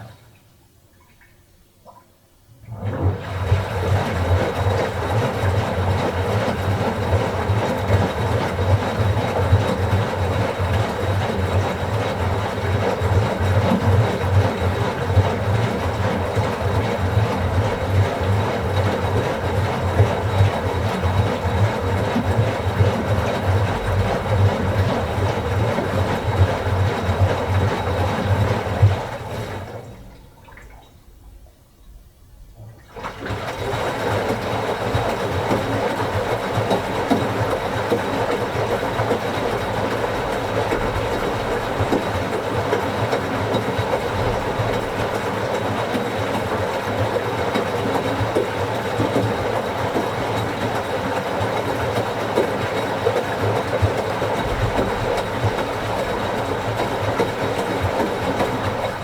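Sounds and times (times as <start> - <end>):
washing machine running: 2.6 - 59.0.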